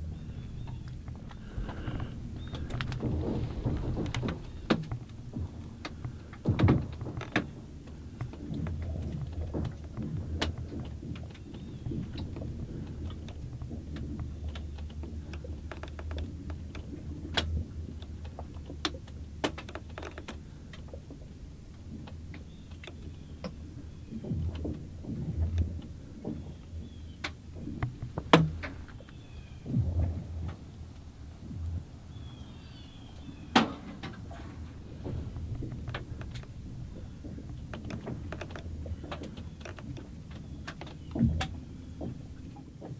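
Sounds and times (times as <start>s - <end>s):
low moaning rumble of ice: 0.0s - 42.9s.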